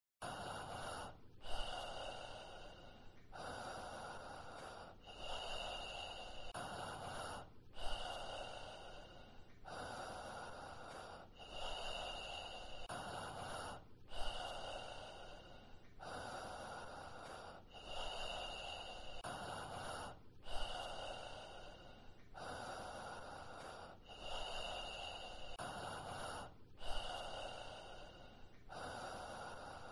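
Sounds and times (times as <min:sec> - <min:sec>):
person breathing heavily: 0:00.2 - 0:29.9.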